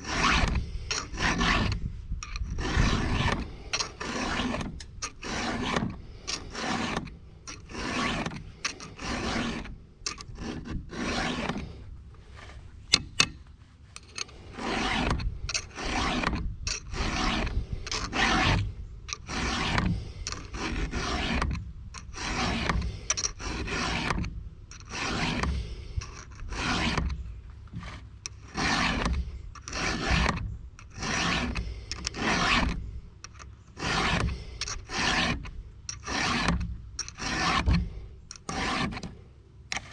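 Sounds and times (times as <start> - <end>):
file rasping on chainsaw chain: 0.0 - 11.9, 14.0 - 39.9.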